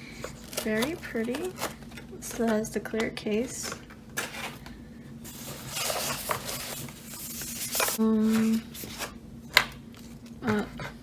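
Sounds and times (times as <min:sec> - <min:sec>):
plastic packaging rustling: 0:00.0 - 0:09.2
steady hum: 0:00.0 - 0:11.0.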